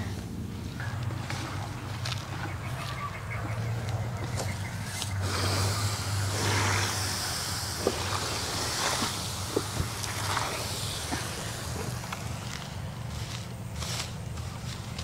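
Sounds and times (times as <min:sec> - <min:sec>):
rush of noise: 0:00.0 - 0:14.1
engine humming: 0:00.0 - 0:15.0.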